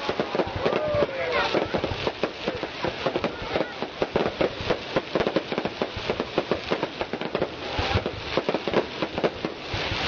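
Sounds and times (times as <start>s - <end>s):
rushing crackle: 0.0s - 10.0s.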